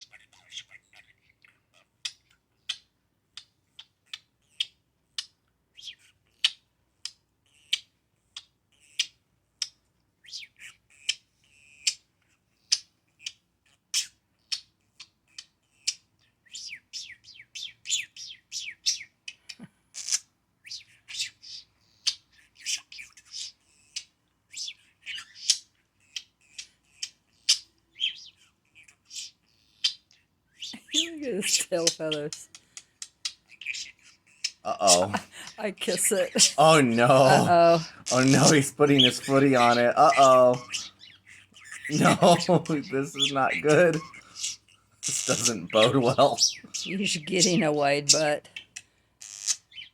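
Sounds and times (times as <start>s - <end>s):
budgerigar chirping and squawking: 0.0s - 49.9s.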